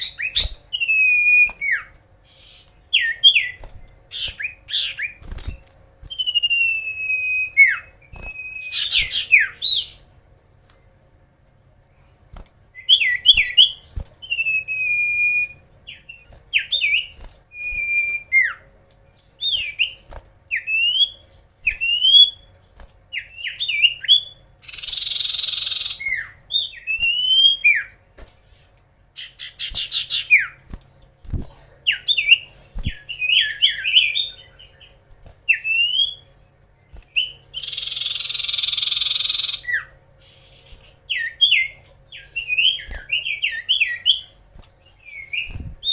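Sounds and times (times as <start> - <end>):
bird whistling song: 0.0 - 10.0, 12.8 - 18.6, 19.4 - 28.0, 29.2 - 30.6, 31.9 - 34.9, 35.5 - 36.4, 37.0 - 45.9.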